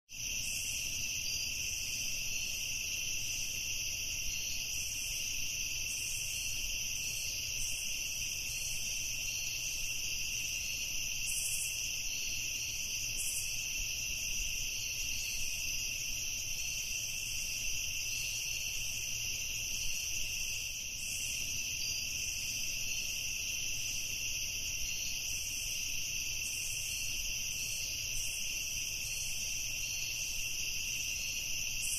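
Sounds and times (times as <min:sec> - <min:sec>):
crickets trilling: 0:00.1 - 0:31.9.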